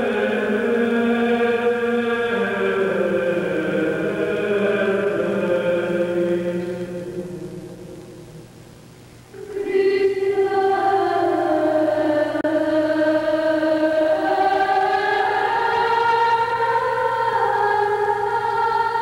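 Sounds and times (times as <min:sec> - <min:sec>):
wordless choral singing: 0:00.0 - 0:08.5, 0:09.3 - 0:19.0.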